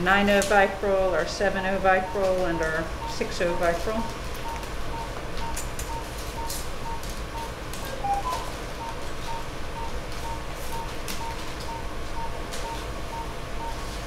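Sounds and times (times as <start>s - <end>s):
room hum: 0.0s - 14.0s
pulse oximeter beeping: 2.0s - 13.8s.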